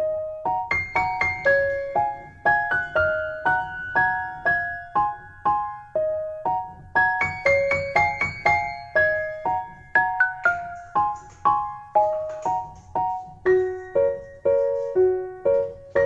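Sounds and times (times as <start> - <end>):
gentle piano-like melody: 0.0 - 16.0.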